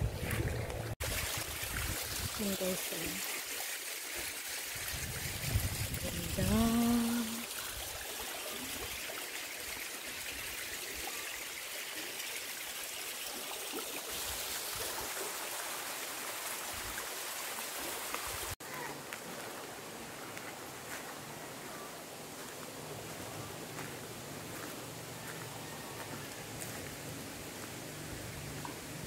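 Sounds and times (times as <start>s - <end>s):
river flowing over stones: 0.0s - 29.0s.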